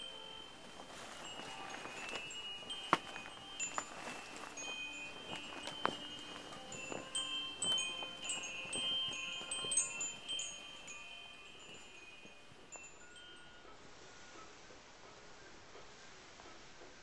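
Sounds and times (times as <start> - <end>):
metallic chimes ringing: 0.0 - 14.2.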